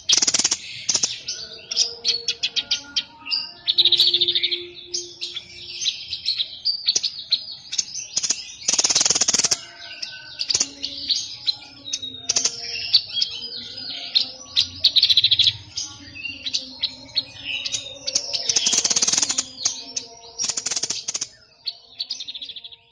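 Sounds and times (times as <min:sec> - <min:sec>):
songbird chirping and whistling: 0:00.0 - 0:22.9.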